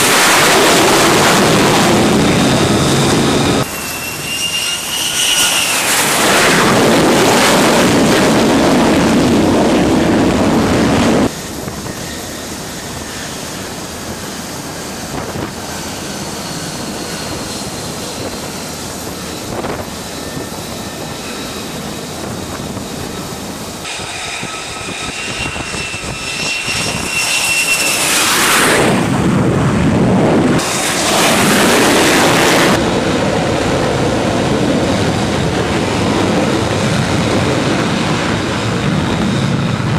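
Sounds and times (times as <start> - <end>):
jet engine roar: 0.0 - 39.9
jet engine whining: 0.0 - 39.9.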